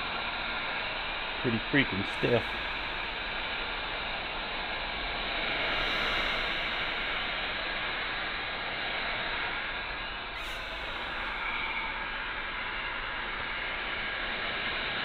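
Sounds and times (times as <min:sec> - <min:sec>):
heat gun blowing: 0:02.1 - 0:14.7.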